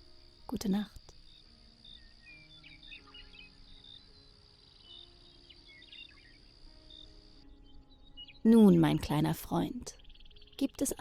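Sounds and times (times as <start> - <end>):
cricket trill: 0.0 - 11.0
bird chirps: 0.7 - 11.0.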